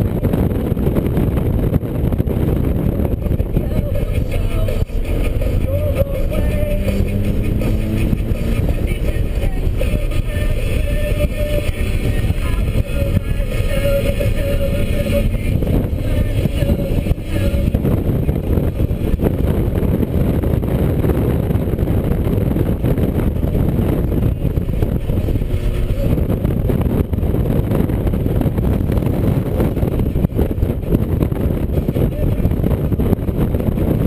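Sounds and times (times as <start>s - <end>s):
car engine running: 0.0s - 34.0s
road and wind noise: 0.0s - 34.0s.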